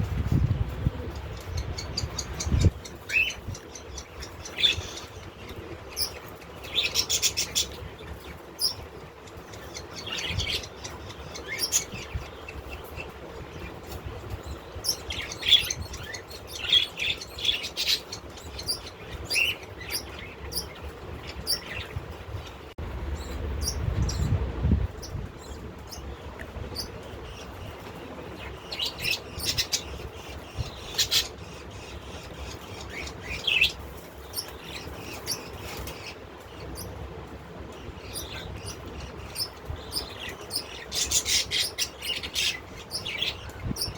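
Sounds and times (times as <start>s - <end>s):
birds chirping: 0.0s - 43.9s
low steady hum: 0.0s - 43.9s.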